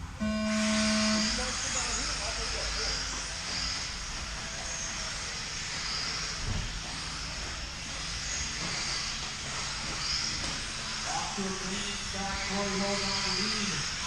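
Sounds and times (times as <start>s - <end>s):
electric toy cars whirring: 0.0s - 14.0s
high motor whine: 0.0s - 14.0s.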